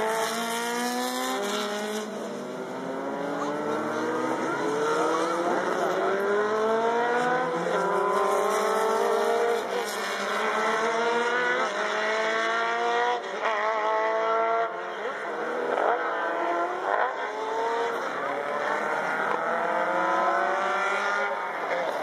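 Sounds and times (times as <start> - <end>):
racing car engines accelerating: 0.0 - 22.0.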